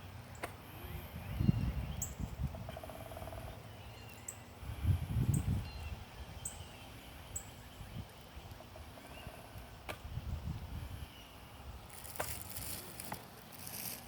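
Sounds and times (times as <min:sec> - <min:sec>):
songbirds calling: 0:00.0 - 0:14.0.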